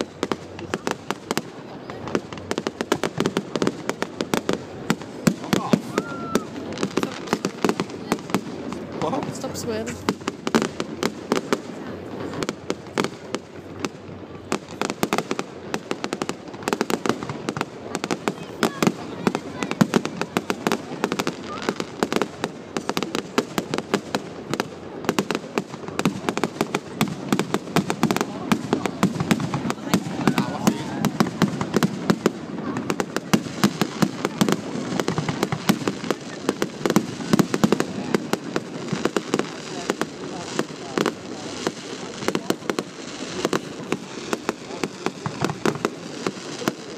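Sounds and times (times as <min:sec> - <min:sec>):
fireworks bursting with sharp bangs: 0:00.0 - 0:46.9.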